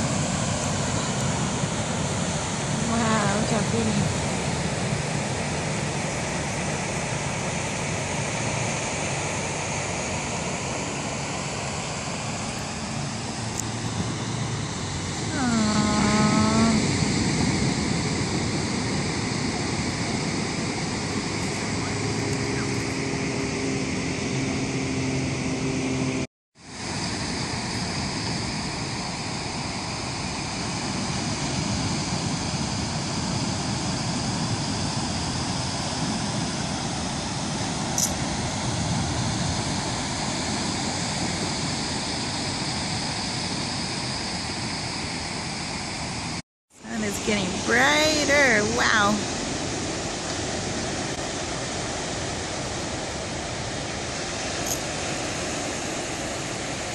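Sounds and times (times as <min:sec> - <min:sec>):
ocean surf breaking on beach: 0:00.0 - 0:56.9.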